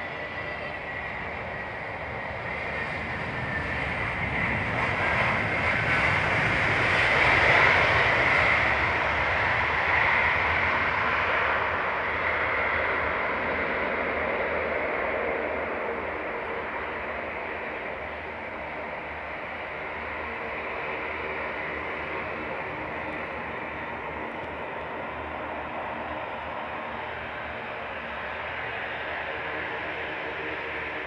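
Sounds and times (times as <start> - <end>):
airplane engines passing: 0.0 - 31.0.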